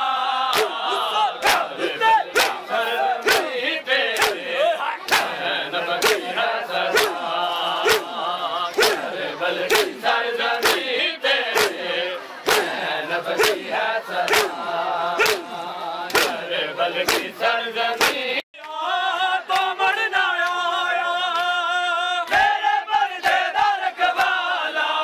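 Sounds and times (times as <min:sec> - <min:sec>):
men chanting lament: 0:00.0 - 0:25.0.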